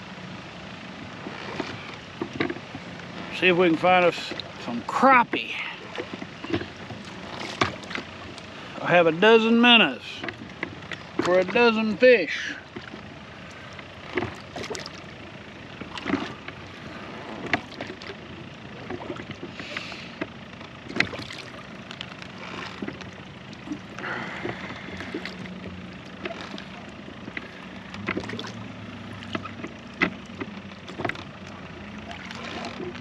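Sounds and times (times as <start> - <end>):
oar knock and splash: 1.1 - 2.9, 3.7 - 8.5, 10.2 - 11.6, 12.6 - 13.1, 14.0 - 18.2, 18.8 - 33.0.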